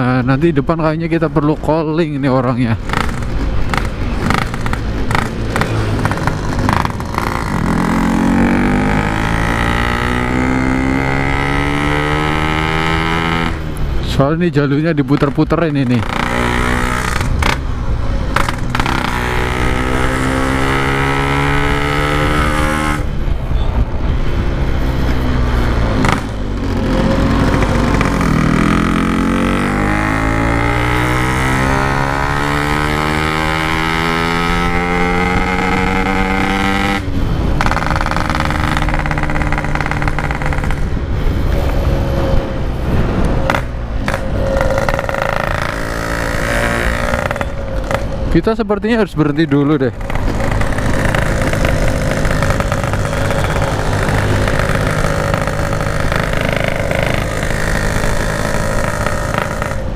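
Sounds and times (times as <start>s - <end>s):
two-stroke motorcycle revving: 0.0s - 59.9s.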